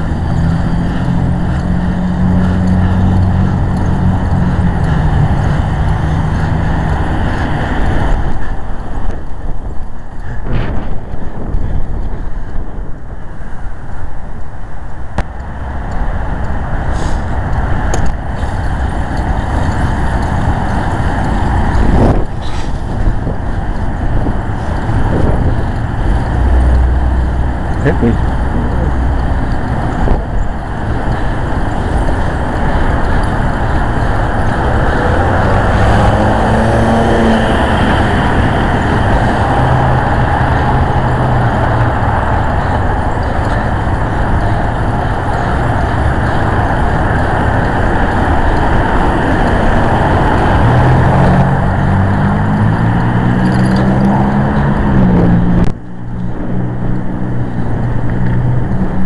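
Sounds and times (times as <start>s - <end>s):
vehicle engine speeding up: 0.0s - 9.3s, 15.3s - 59.0s
road noise: 0.0s - 59.0s.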